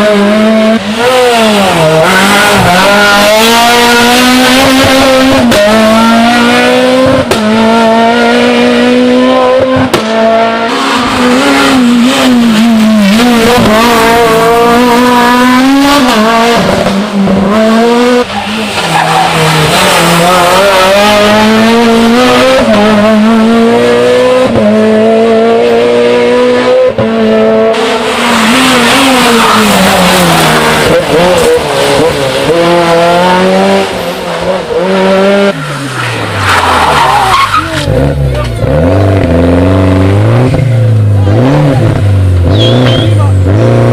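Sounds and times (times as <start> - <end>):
rally cars at full throttle: 0.0 - 43.9.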